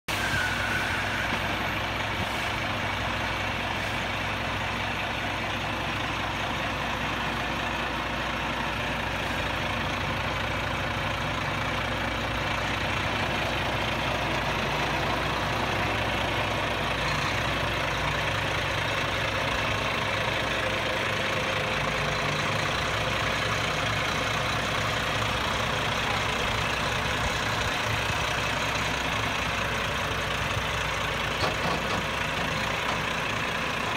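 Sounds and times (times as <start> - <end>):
diesel truck engine at low revs: 0.1 - 33.9.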